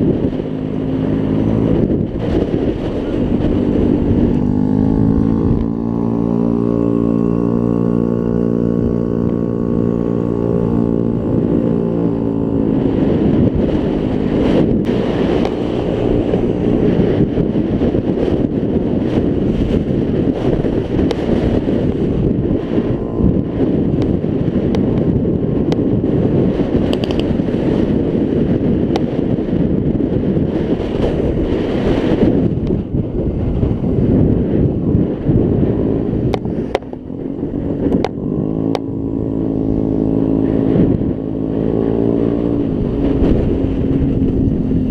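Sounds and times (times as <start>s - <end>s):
scooter engine running: 0.0s - 28.2s, 33.0s - 44.9s
wind rushing over microphone: 0.0s - 44.9s.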